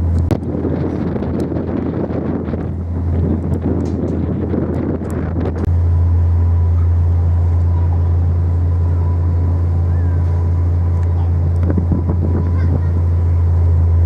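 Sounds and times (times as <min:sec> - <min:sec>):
wind buffeting microphone: 0:00.0 - 0:05.8, 0:06.6 - 0:14.0
ferry engines droning: 0:00.0 - 0:14.0.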